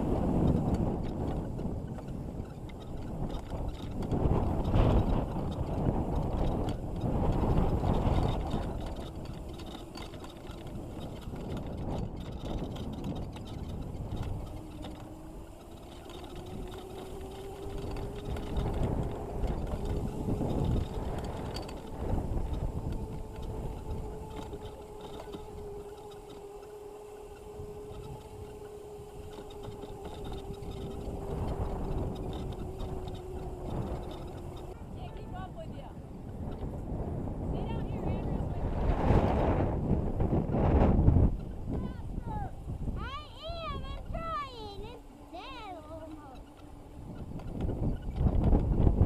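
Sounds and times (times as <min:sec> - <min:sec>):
electric motor whine: 0:00.0 - 0:49.0
low rumbling of wind: 0:00.0 - 0:49.0.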